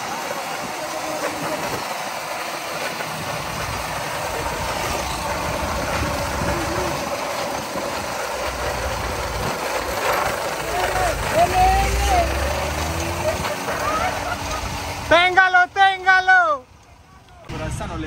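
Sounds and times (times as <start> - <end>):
bicycle tyres skidding on asphalt: 0.0 - 16.7
car engine running: 0.0 - 18.0.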